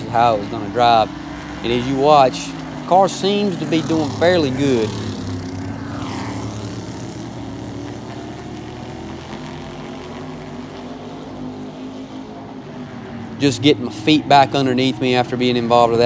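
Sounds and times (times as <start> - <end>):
race car engine passing by: 0.0 - 16.0.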